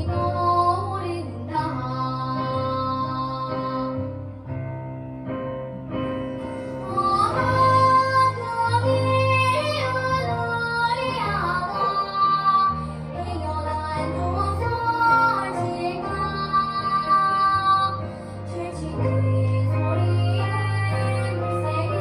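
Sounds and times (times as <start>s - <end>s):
child singing: 0.0s - 4.0s, 6.8s - 22.0s
instrumental accompaniment: 0.0s - 22.0s.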